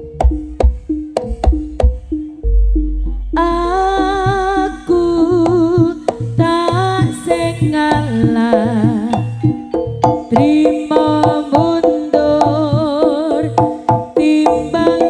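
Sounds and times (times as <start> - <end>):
wavering held melody: 0.0 - 15.0.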